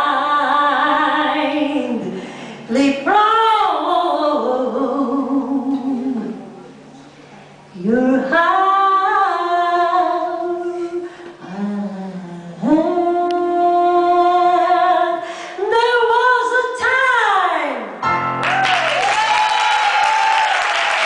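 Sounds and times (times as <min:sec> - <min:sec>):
woman singing into a microphone: 0:00.0 - 0:06.6, 0:07.7 - 0:18.0.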